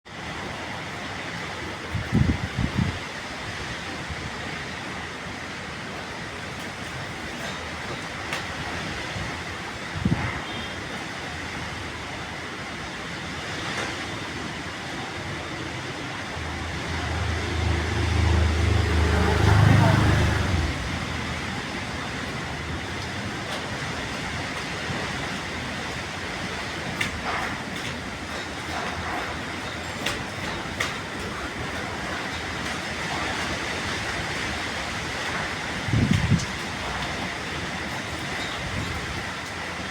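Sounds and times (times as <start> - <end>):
strong wind blowing: 1.2 - 11.6, 15.0 - 39.9.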